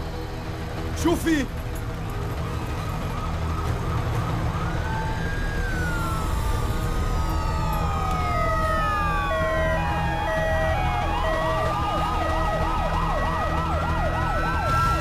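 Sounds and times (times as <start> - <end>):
sirens wailing: 0.0 - 15.0
two-tone siren: 2.4 - 15.0.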